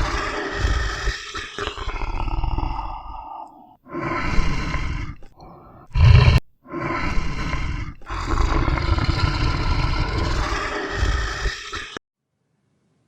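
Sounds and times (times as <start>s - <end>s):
large animal roaring: 0.0s - 12.0s.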